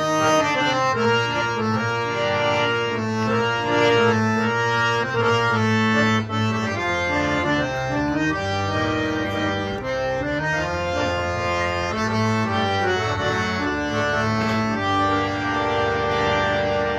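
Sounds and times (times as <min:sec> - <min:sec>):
harmonium melody: 0:00.0 - 0:16.9.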